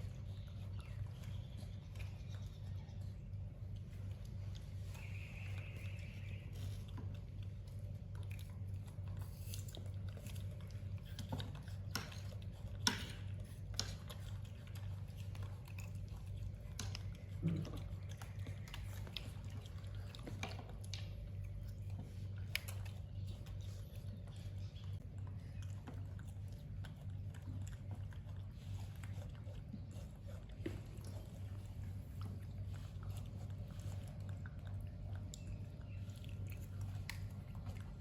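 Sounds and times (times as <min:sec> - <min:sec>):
small animal chewing food: 0:00.0 - 0:38.0
steady low hum: 0:00.0 - 0:38.0.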